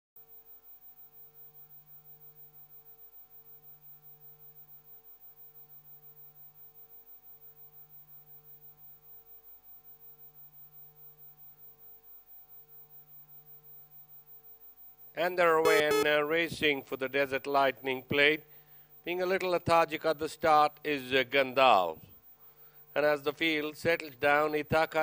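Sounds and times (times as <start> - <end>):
faint electrical hum: 0.2 - 25.0.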